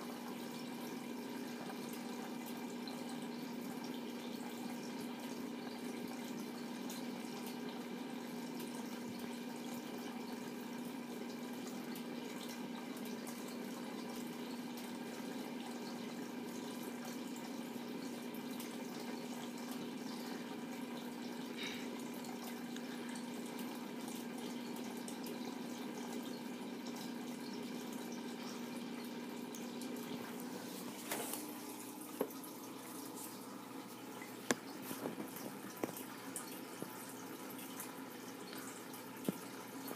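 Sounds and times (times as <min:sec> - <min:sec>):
aquarium pump hum: 0:00.0 - 0:39.9
water bubbling and trickling: 0:00.0 - 0:39.9.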